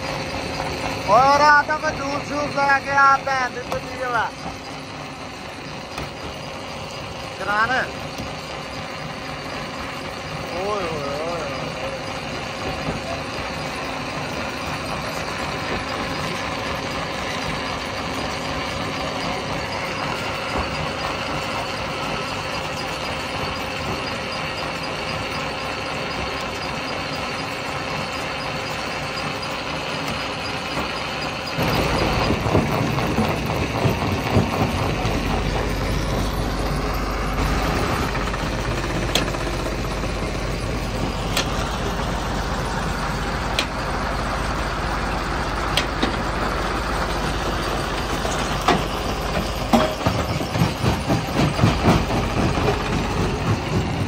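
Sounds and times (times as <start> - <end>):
stone crusher machinery running: 0.0 - 54.0.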